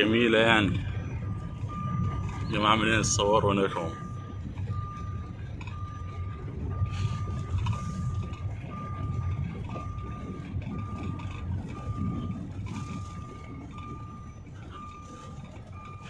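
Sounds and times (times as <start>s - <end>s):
car driving on dirt track: 0.0s - 16.0s
car warning chime beeping: 0.0s - 16.0s.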